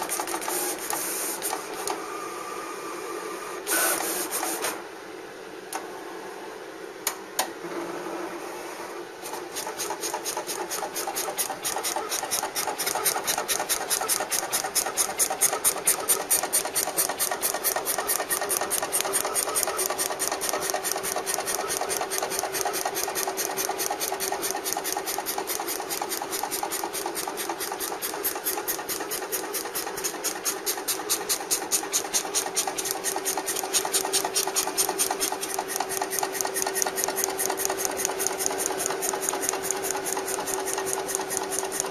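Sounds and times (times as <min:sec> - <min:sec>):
cutting plotter rapid pulsing: 0:00.0 - 0:02.0, 0:09.2 - 0:41.9.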